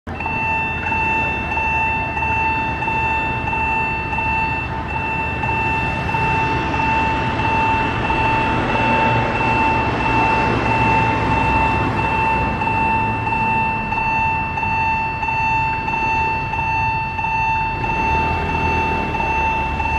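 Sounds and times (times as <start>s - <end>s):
level-crossing warning bell: 0.1s - 19.9s.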